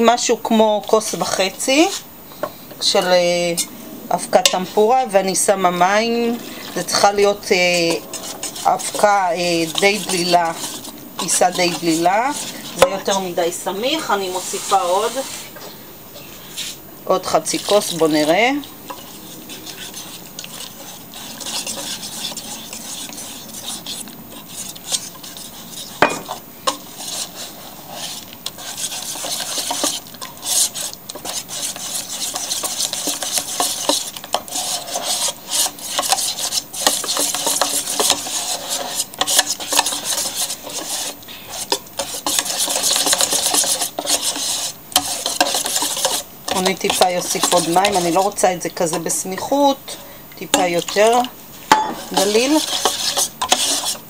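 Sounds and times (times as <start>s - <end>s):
whisk beating batter in metal pan: 0.0s - 2.1s, 2.8s - 15.5s, 16.5s - 54.0s.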